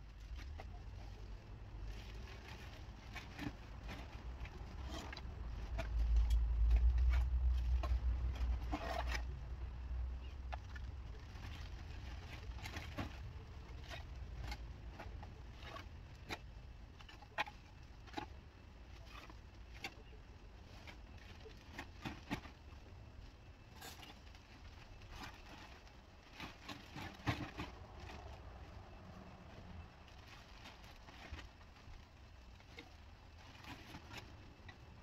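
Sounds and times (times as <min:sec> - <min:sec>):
plastic bag rustling: 0:00.1 - 0:09.4, 0:10.2 - 0:35.0.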